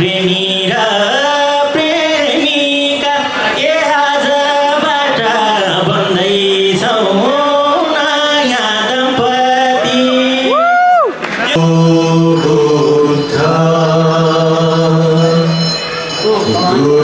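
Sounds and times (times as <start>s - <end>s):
chant-like music: 0.0s - 10.6s, 11.4s - 17.0s
man singing into microphone: 0.0s - 10.8s, 11.4s - 17.0s.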